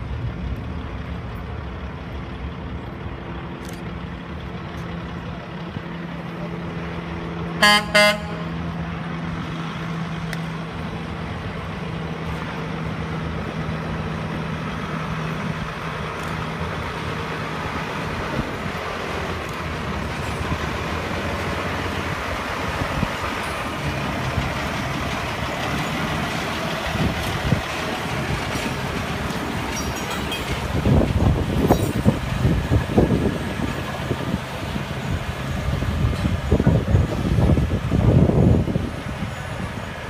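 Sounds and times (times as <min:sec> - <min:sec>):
diesel truck engine running: 0:00.0 - 0:40.0
rail car rolling on tracks: 0:00.0 - 0:40.0.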